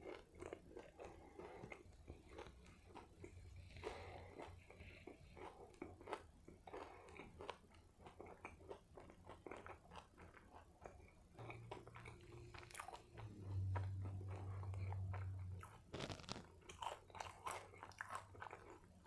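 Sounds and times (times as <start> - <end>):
chewing a burger: 0.0 - 19.0.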